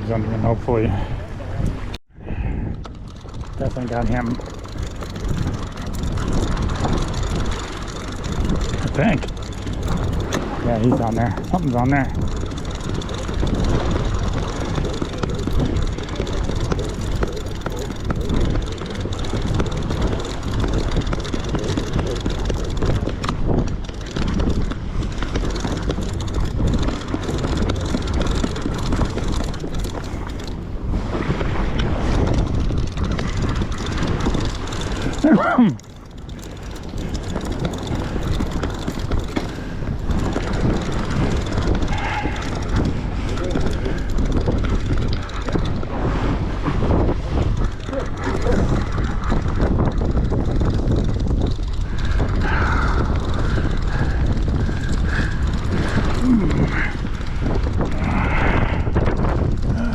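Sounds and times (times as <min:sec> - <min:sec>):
boat engine rumbling: 0:00.0 - 0:59.9
wind buffeting microphone: 0:00.0 - 0:59.9
sea noise: 0:00.6 - 0:49.6.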